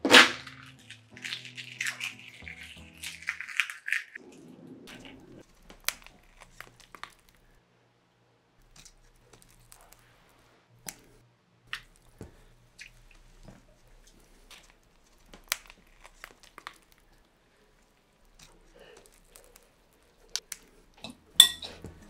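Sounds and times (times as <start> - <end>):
eggshell crackling while peeled: 0.0 - 7.6, 8.6 - 22.0.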